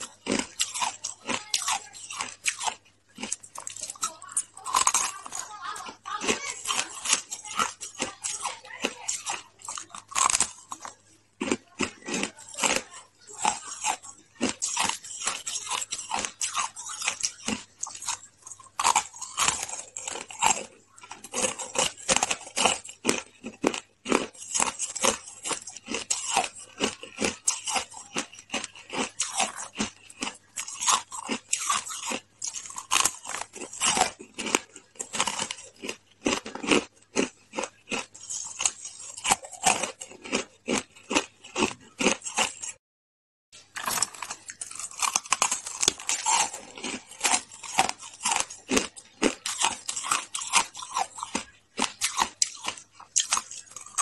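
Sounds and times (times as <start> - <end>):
person chewing ice crunches: 0.0 - 42.8, 43.6 - 54.0.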